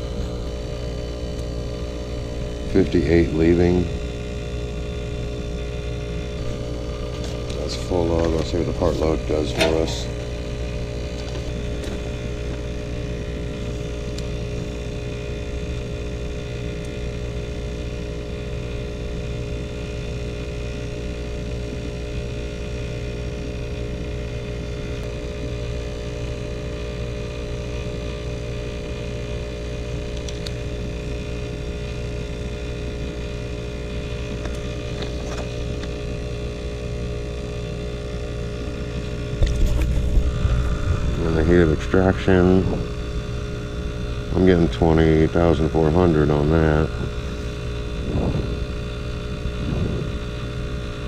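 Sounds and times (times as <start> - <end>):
heat pump humming: 0.0 - 51.0.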